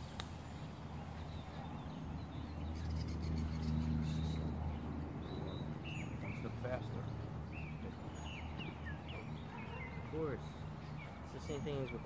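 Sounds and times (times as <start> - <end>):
bird chirps: 0.0 - 12.0
engine hum: 0.0 - 12.0.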